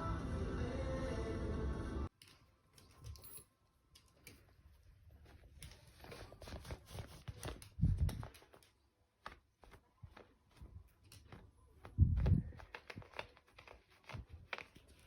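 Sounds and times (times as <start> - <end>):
dog claws clicking on floor: 2.1 - 4.6, 5.2 - 15.0.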